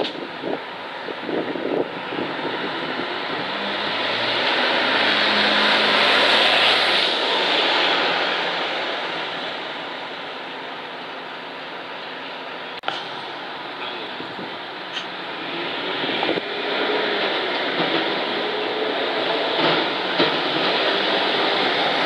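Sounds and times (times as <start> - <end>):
bus driving past: 0.0 - 22.0.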